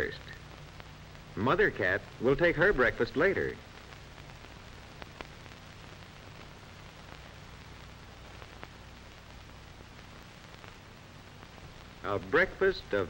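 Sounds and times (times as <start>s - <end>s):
faint crackle clicks: 0.0s - 13.0s
film soundtrack hiss and hum: 0.0s - 13.0s.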